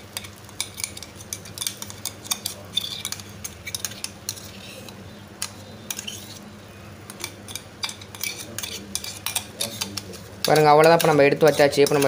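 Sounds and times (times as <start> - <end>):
spoon scraping and tapping jar: 0.1 - 6.4, 7.1 - 12.0.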